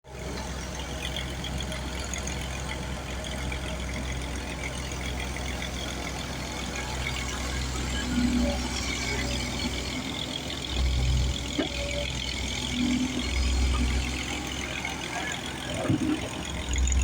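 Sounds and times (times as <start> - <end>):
excavator diesel engine idling: 0.1 - 17.0.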